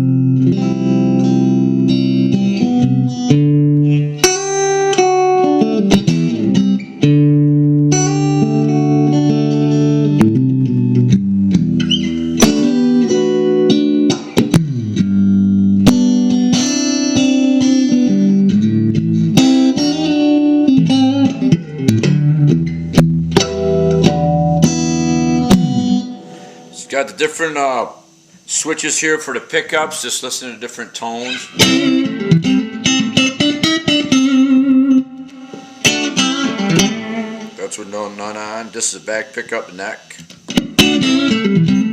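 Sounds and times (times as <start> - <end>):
electric guitar playing: 0.0 - 28.4, 31.0 - 39.0, 40.2 - 41.9.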